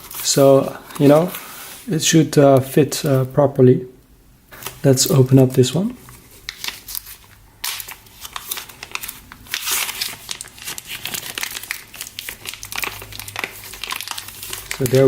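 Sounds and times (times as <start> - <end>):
packaging crinkling: 0.0 - 1.7, 4.5 - 15.0.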